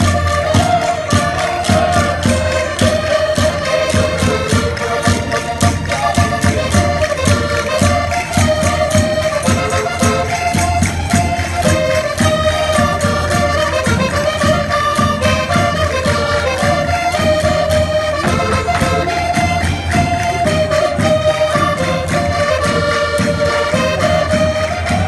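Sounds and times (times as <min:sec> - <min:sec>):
accordion melody: 0:00.0 - 0:25.0
quick percussion beat: 0:00.0 - 0:25.0.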